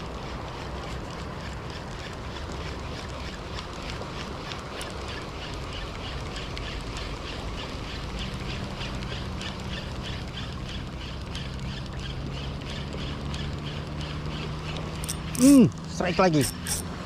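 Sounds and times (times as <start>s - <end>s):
fishing reel ticking whir: 0.0s - 17.0s
wind: 0.0s - 17.0s.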